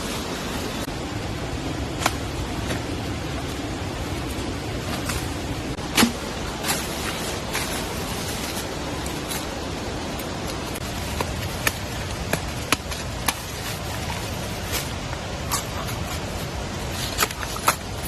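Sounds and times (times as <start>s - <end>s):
rain hissing in forest: 0.0s - 18.0s.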